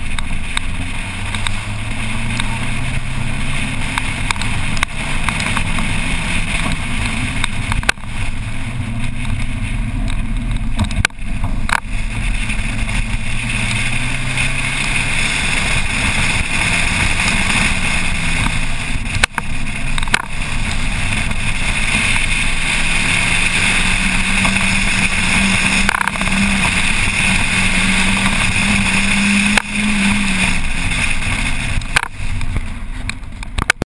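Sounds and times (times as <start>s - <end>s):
car engine running hard: 0.0s - 33.8s
road and wind noise: 0.0s - 33.9s.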